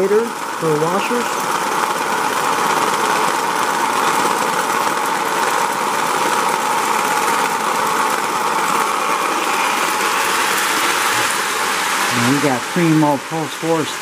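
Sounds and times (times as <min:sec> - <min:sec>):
toy train motor whirring: 0:00.0 - 0:14.0
wheels rolling on rails: 0:00.0 - 0:14.0.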